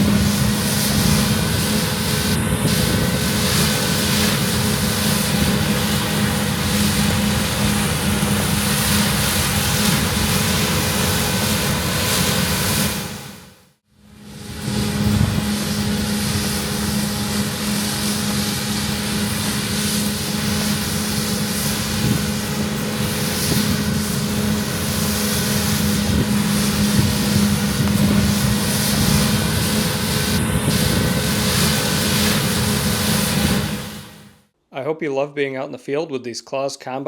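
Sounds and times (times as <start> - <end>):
combine harvester droning: 0.0 - 34.4.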